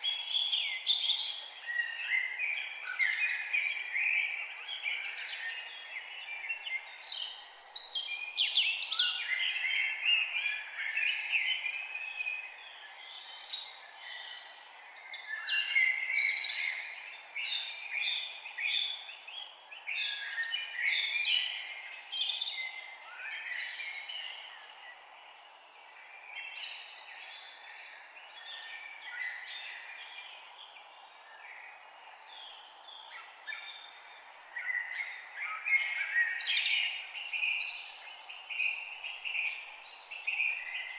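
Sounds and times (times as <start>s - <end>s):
faint steady hiss: 0.0s - 40.9s
songbirds chirping and singing: 0.0s - 40.9s.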